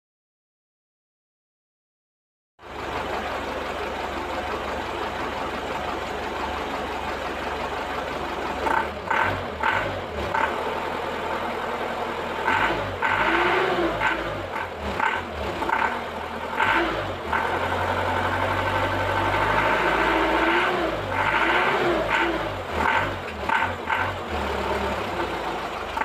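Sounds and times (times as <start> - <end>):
diesel engine rumbling: 2.6 - 26.0.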